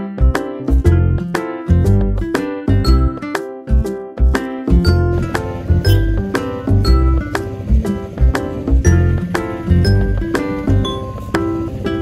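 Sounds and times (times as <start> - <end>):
music with repeating bass beat: 0.0 - 12.0.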